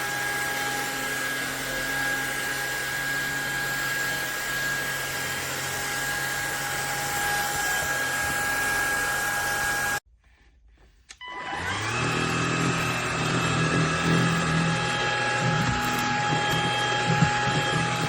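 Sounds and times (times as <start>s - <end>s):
vacuum cleaner motor running: 0.0s - 10.0s, 11.2s - 18.0s.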